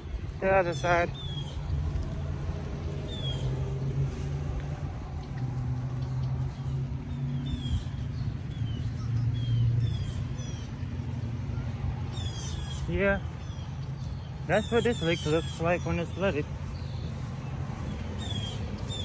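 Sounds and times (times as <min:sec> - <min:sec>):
birds chirping: 0:00.0 - 0:19.0
vehicle engine humming: 0:00.0 - 0:19.0.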